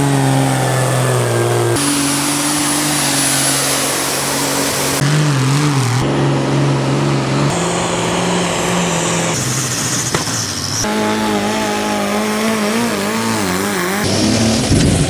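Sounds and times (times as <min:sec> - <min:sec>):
tractor engines under load: 0:00.0 - 0:15.0.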